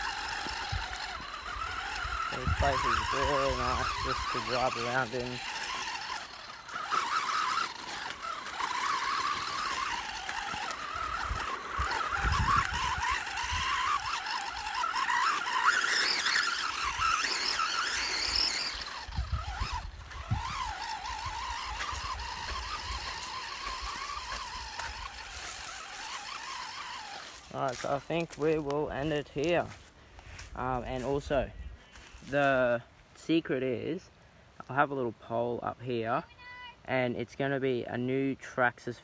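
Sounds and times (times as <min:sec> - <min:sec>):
toy car motor whining: 0:00.0 - 0:32.8.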